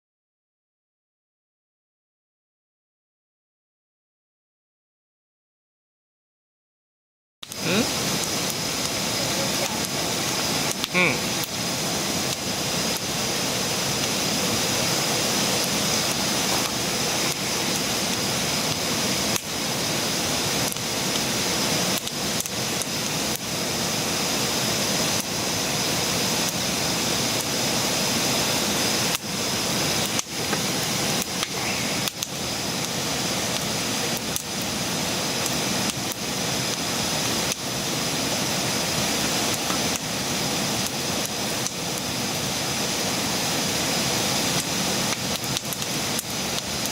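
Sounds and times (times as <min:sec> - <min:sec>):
campfire hissing: 0:07.4 - 0:46.9.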